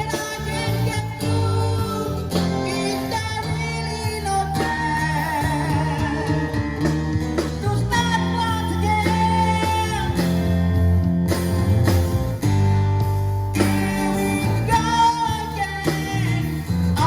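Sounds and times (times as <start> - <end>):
man singing: 0.0 - 10.6, 13.6 - 17.0
guitar accompaniment: 0.0 - 17.0.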